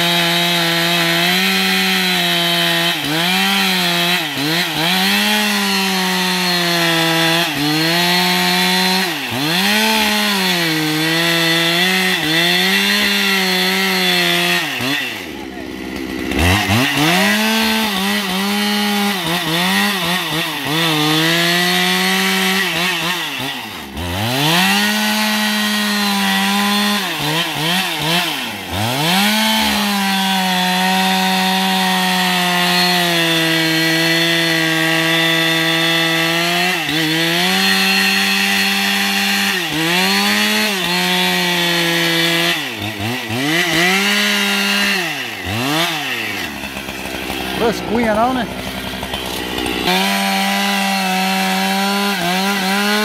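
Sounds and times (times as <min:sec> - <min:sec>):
chainsaw cutting at high revs: 0:00.0 - 0:53.0.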